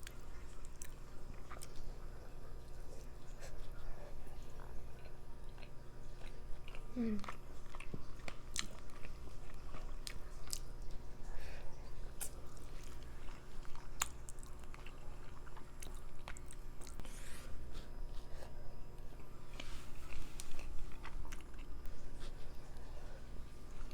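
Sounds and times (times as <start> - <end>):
person chewing food: 0.0 - 23.9.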